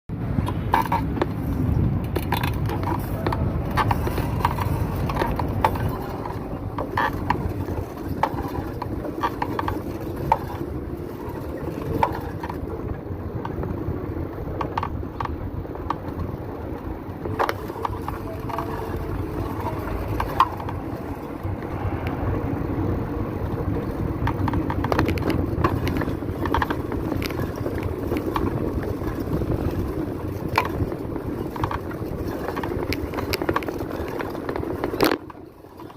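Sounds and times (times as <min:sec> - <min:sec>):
bicycle clicking while pedaled: 0:00.1 - 0:35.9
riding rumble: 0:00.1 - 0:35.9.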